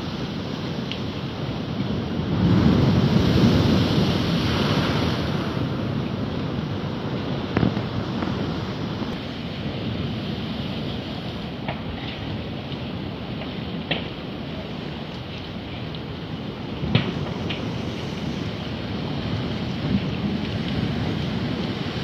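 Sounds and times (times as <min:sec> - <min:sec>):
waves washing: 0:00.0 - 0:22.0
wind gusting on microphone: 0:00.0 - 0:22.0.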